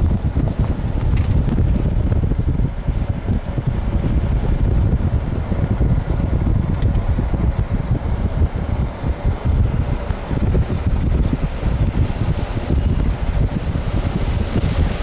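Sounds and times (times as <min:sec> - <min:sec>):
vehicle rumbling on road: 0:00.0 - 0:15.0
wind buffeting microphone: 0:00.0 - 0:15.0.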